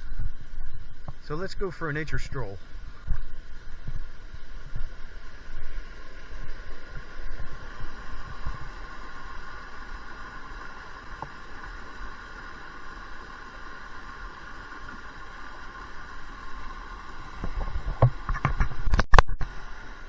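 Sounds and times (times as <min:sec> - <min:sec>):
creek rushing: 0:00.0 - 0:18.6.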